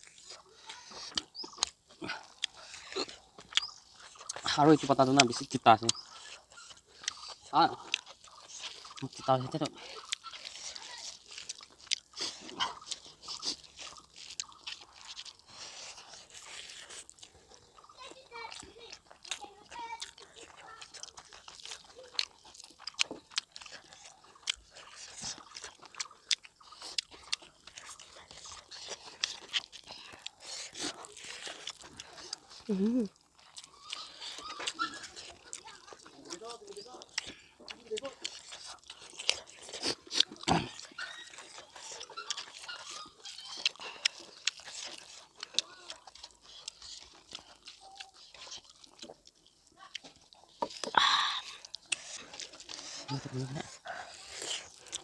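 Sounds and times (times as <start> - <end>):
person chewing food: 0.0 - 55.0
wet mouth sounds: 0.0 - 55.0.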